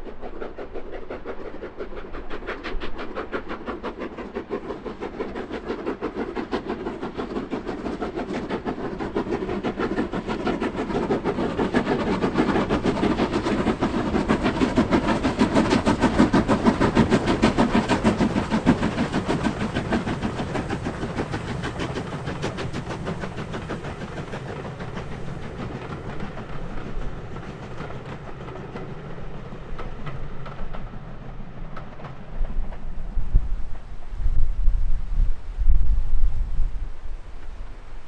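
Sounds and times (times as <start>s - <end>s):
steam train passing: 0.0s - 38.0s.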